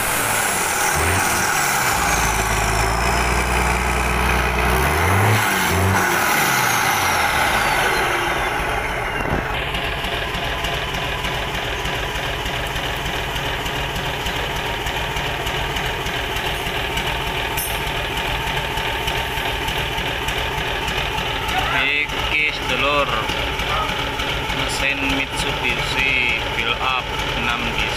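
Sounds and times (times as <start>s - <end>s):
diesel engine idling: 0.0s - 27.9s.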